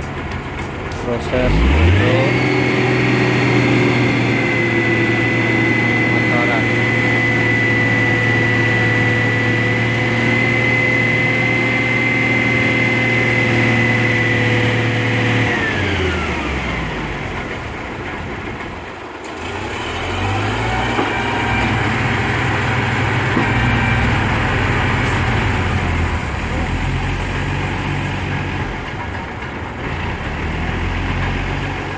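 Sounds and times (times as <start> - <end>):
truck diesel engine revving: 0.0 - 31.9.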